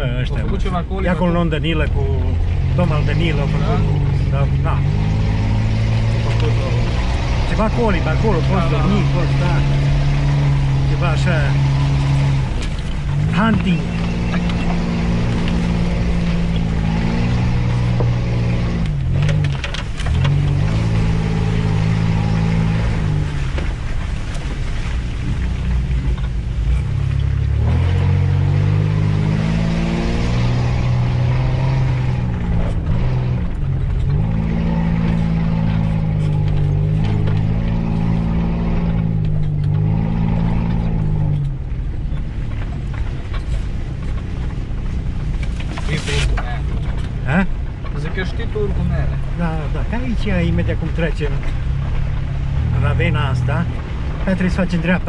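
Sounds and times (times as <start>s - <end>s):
engine revving under load: 0.0s - 24.0s, 25.3s - 55.0s.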